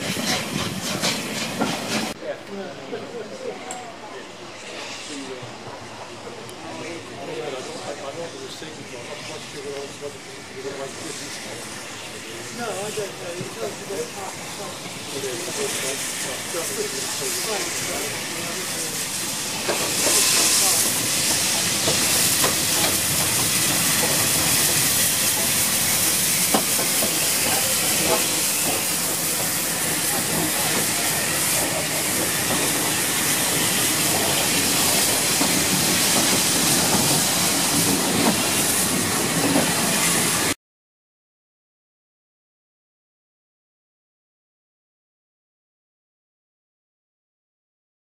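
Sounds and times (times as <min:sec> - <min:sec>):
steam locomotive hissing: 0:00.0 - 0:02.2, 0:02.8 - 0:40.6.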